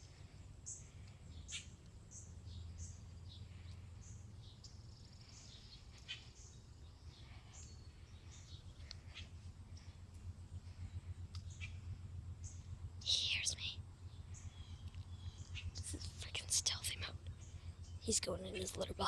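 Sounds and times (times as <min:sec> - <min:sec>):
faint bird chirps: 0:00.0 - 0:19.0
steady low hum: 0:00.0 - 0:19.0.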